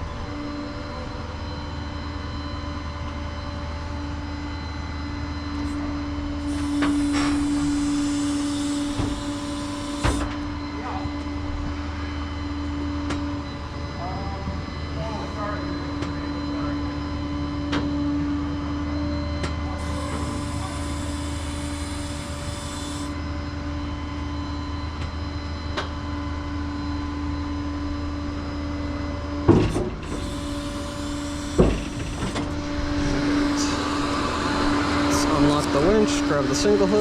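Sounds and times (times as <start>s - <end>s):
tow truck engine whining: 0.0s - 13.9s, 15.7s - 37.0s.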